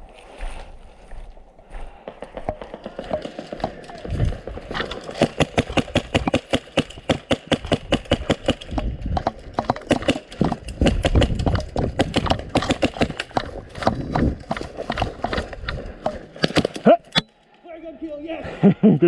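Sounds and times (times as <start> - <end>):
running footsteps: 0.0 - 16.8.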